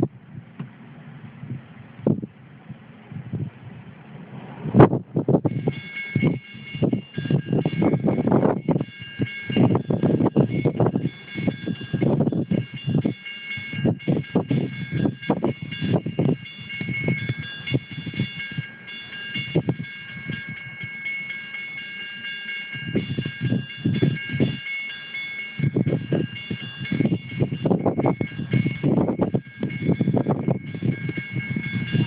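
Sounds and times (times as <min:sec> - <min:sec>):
freight train passing: 0:00.0 - 0:32.0
wind buffeting microphone: 0:00.0 - 0:32.0
high-pitched ringing tones: 0:05.4 - 0:32.0.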